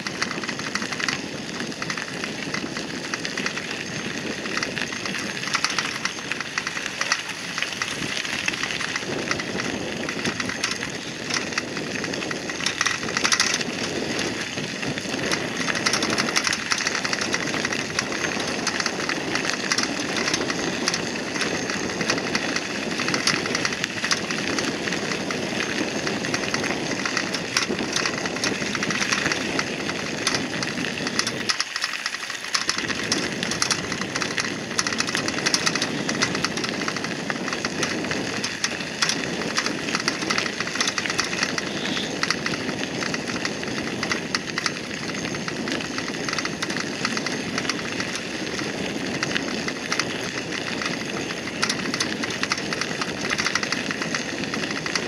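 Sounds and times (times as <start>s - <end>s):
bicycle tyres rolling on gravel: 0.0s - 55.0s.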